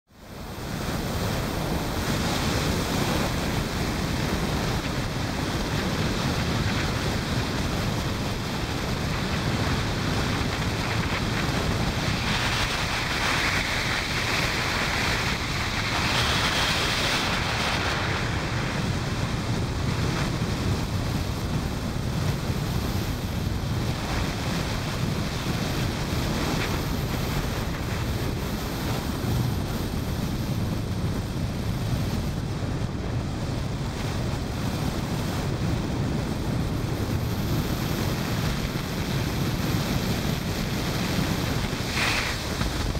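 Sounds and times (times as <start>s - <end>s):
motorcycle engine and road rumble: 0.1s - 42.9s
wind rushing over microphone: 0.1s - 42.9s.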